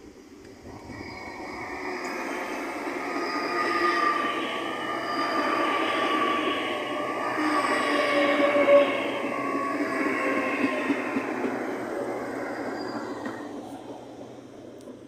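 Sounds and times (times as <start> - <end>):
electric train rumble: 0.0 - 15.0
high-pitched whines: 0.0 - 15.0.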